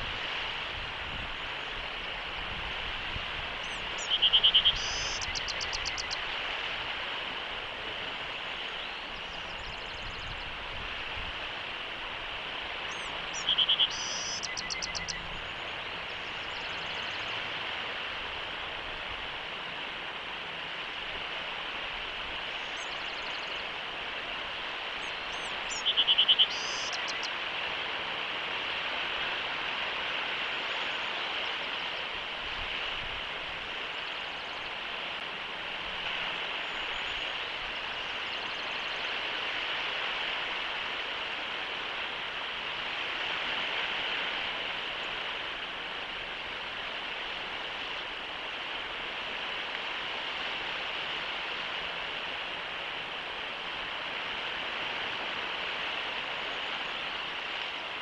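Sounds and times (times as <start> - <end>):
microphone hiss: 0.0 - 58.0.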